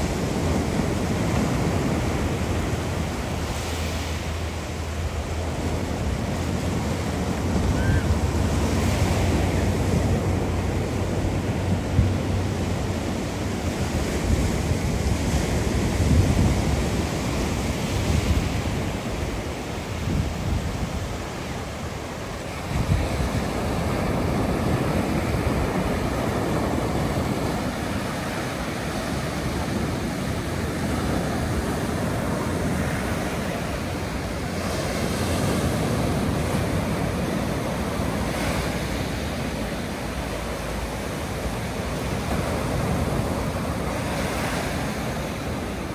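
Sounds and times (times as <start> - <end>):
sea waves breaking on shore: 0.0 - 45.9
wind rumbling on microphone: 0.0 - 45.9.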